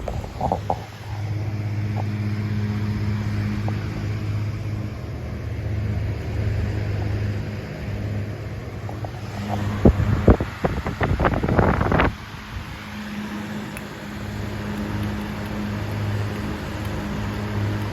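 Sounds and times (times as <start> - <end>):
fan motor hum: 0.0 - 17.9
rush of air from fan blades: 0.0 - 17.9.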